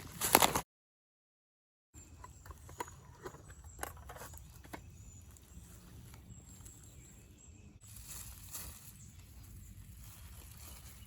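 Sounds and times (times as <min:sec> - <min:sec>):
faint outdoor background: 0:01.9 - 0:11.0.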